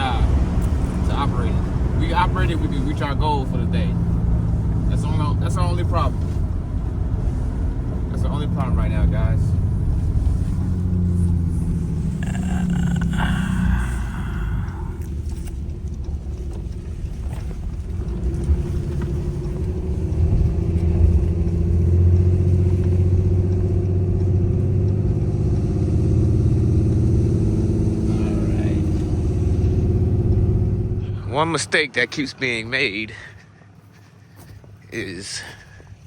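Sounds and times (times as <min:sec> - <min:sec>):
truck engine and road noise: 0:00.0 - 0:36.0.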